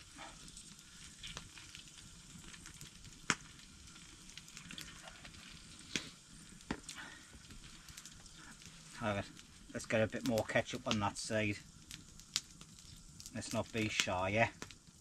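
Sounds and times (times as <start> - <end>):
campfire crackling: 0.0 - 15.0
fire popping: 0.0 - 15.0
sizzle from grill: 0.0 - 15.0.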